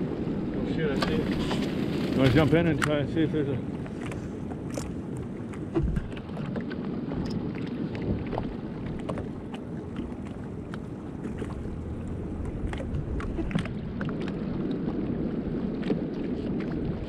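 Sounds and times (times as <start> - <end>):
waves lapping against boat hull: 0.0 - 17.0
wind on microphone: 0.0 - 17.0.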